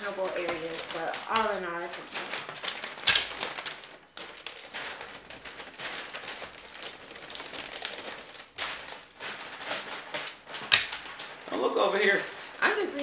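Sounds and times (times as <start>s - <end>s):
wrapping paper rustling and crinkling: 0.0s - 13.0s.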